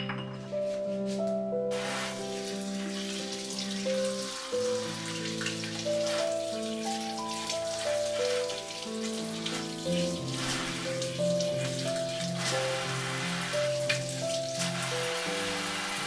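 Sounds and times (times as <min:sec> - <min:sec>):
soft background music: 0:00.0 - 0:16.0
water pattering: 0:02.2 - 0:15.6.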